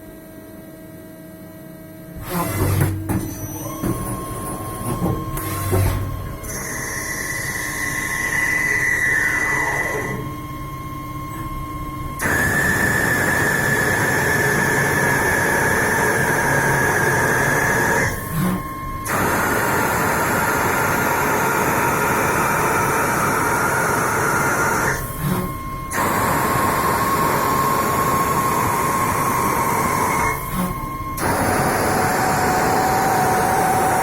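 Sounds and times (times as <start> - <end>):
machine whine and hiss: 0.0 - 34.0.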